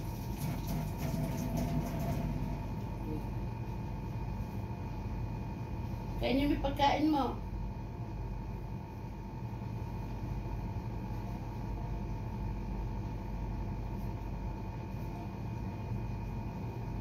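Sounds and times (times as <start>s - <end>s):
low rumble and hum: 0.0s - 17.0s.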